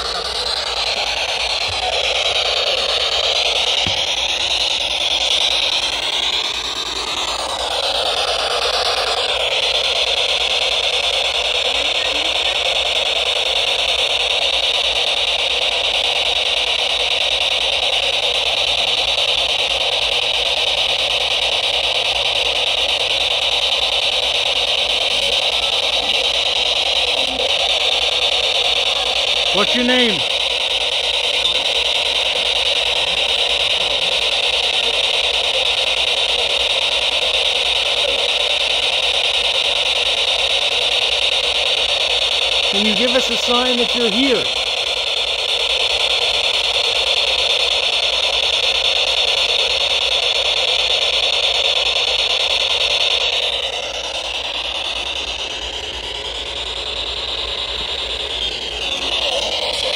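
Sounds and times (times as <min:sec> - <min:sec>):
radio static hiss: 0:00.0 - 0:54.8.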